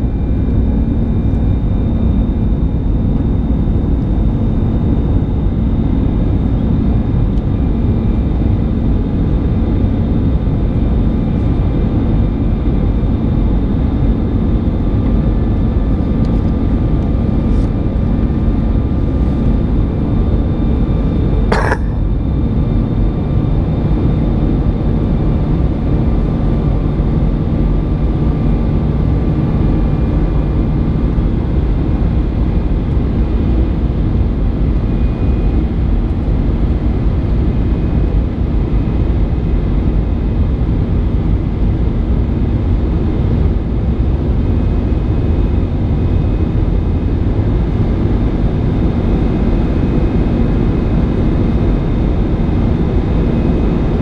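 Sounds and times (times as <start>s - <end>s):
jet engine cabin noise: 0.0s - 54.0s.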